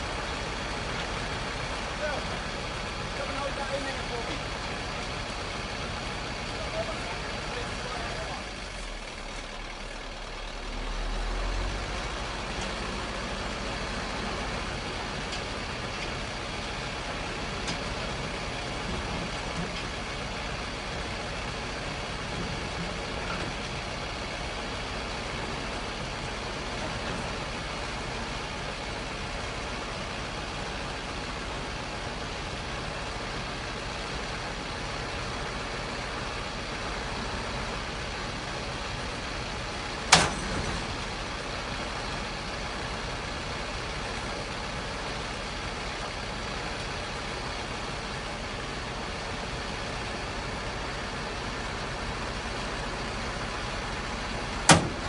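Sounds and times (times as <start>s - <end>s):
large vehicle engine running: 0.0s - 55.0s.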